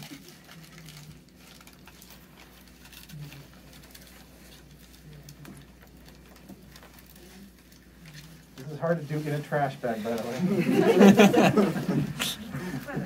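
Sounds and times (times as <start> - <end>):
aluminium foil crinkling: 0.0 - 11.9.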